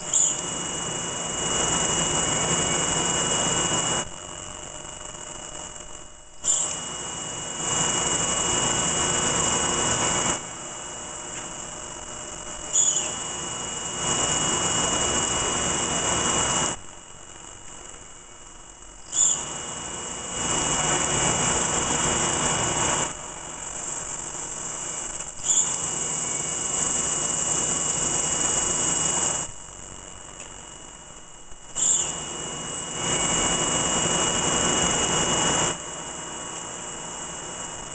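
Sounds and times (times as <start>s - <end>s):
machine drilling holes: 0.0s - 16.8s, 19.0s - 29.6s, 31.6s - 35.9s
thin high machine whine: 0.0s - 37.9s.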